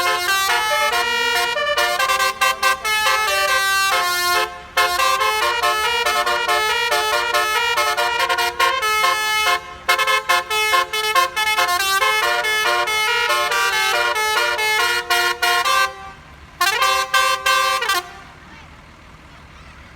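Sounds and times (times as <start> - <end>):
multi-tone bus horn tune: 0.0 - 18.4.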